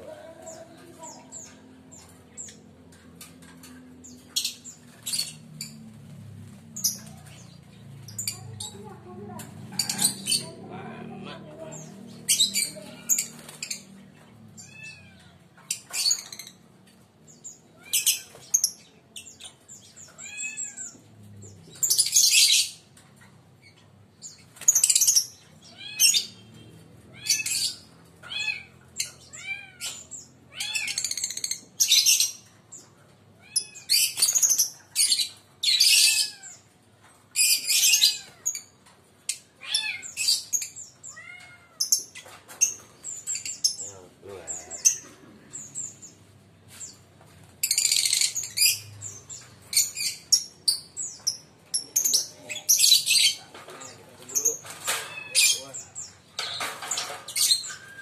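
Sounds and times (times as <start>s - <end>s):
lovebirds screeching and chirping: 0.0s - 58.0s.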